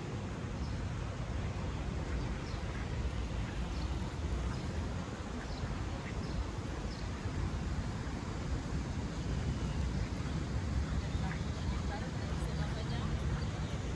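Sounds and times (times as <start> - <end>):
small birds chirping: 0.5 - 8.4, 9.0 - 13.9.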